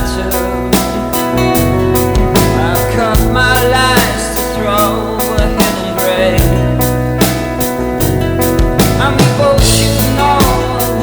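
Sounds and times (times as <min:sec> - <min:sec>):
drum kit beat: 0:00.0 - 0:11.0
electric guitar chords: 0:00.0 - 0:11.0.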